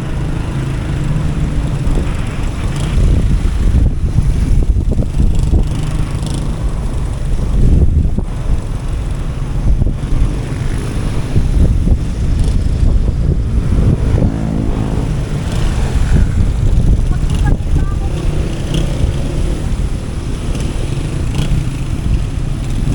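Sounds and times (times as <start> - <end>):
motorcycle engine rumble: 0.0 - 22.9
road noise: 0.0 - 22.9.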